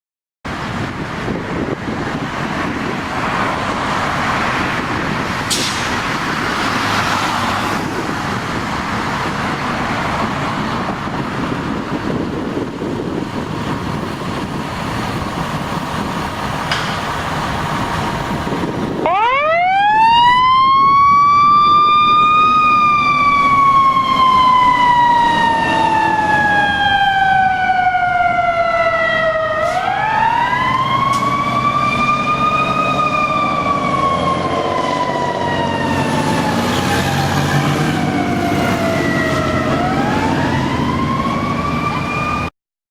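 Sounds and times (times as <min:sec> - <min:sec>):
road and engine noise: 0:00.4 - 0:42.5
fire engine siren: 0:00.5 - 0:42.5.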